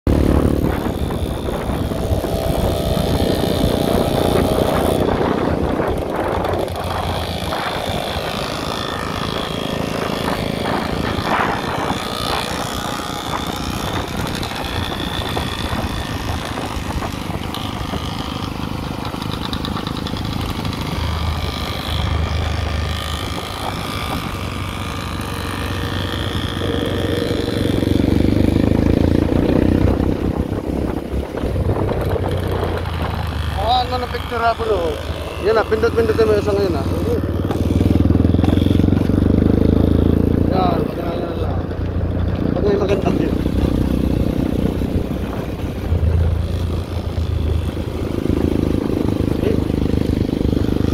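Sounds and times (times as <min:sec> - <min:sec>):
dirt bike engines running: 0:00.1 - 0:50.9.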